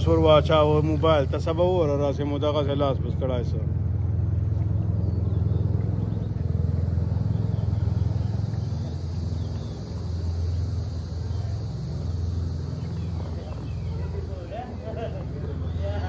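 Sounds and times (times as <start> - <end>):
motorboat engine rumbling: 0.0 - 16.0.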